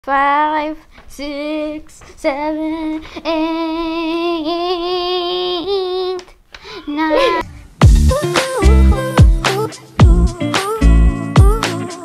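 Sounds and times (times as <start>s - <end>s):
girl singing held notes: 0.0s - 12.0s.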